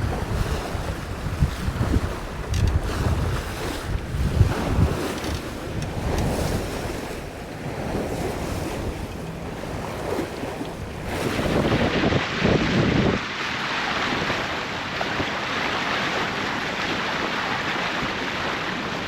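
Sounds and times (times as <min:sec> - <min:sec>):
waves washing along hull: 0:00.0 - 0:19.0
wind gusting on microphone: 0:00.0 - 0:19.0.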